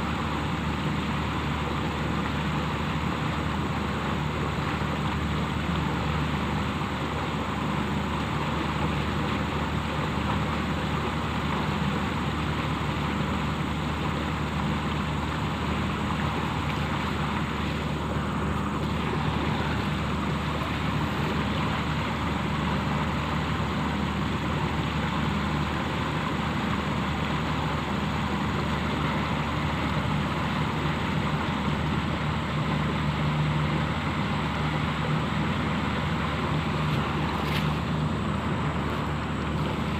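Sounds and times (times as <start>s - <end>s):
motor droning: 0.0s - 39.9s.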